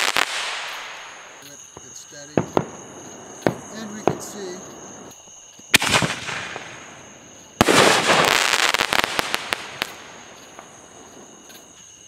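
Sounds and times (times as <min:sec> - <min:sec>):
firework bang: 0:00.0 - 0:11.6
firework crackling pops: 0:00.0 - 0:11.8.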